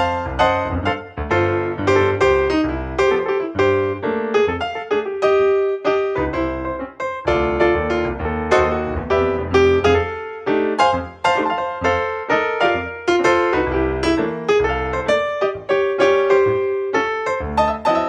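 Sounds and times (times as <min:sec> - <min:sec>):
quick piano notes: 0:00.0 - 0:18.0.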